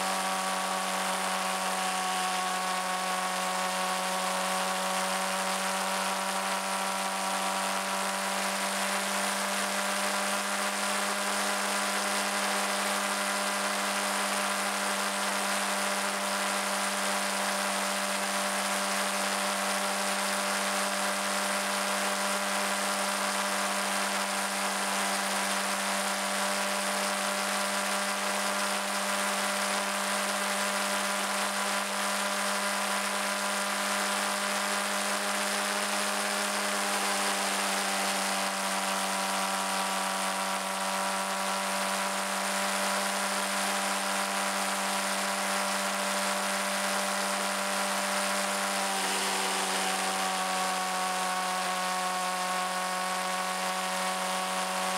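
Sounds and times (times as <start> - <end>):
motorcycle engine buzzing: 0.0 - 54.9.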